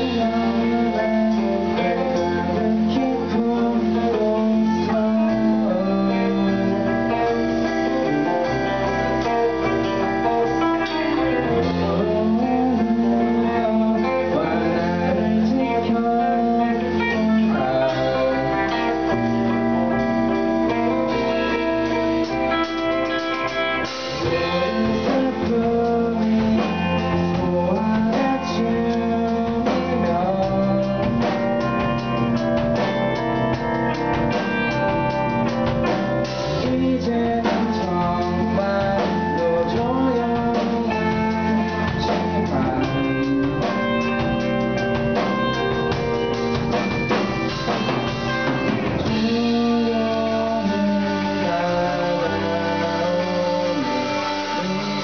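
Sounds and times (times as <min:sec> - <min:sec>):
bass guitar: 0:00.0 - 0:55.0
drum kit: 0:00.0 - 0:55.0
electric guitar: 0:00.0 - 0:55.0
person singing: 0:00.0 - 0:55.0.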